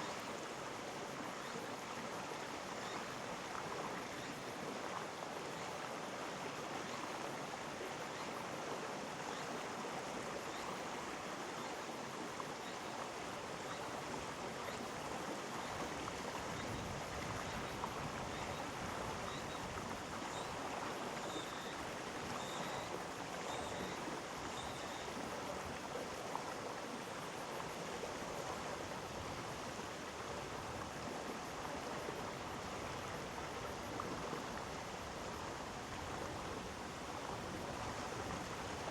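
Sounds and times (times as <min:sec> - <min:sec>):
mountain stream flowing and splashing: 0:00.0 - 0:38.9.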